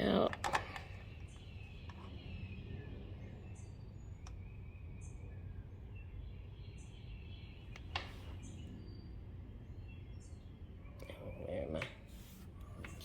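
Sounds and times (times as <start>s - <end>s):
faint bird chirps: 0.0s - 13.0s
quiet background hum: 0.0s - 13.0s.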